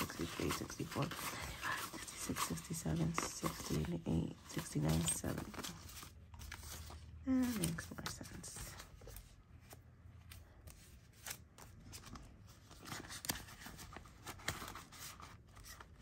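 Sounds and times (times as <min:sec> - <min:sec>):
paper and plastic pages rustling: 0:00.0 - 0:16.0.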